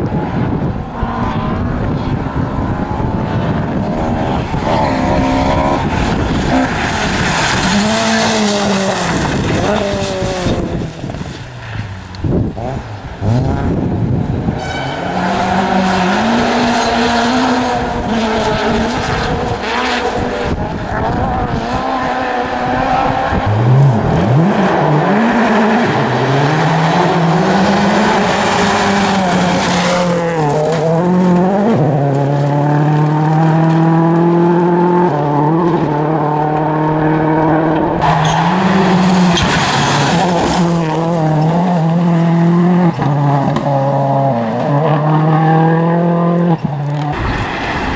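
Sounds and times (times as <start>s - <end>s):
rally car engine revving: 0.0s - 47.9s
tyre noise: 0.0s - 47.9s.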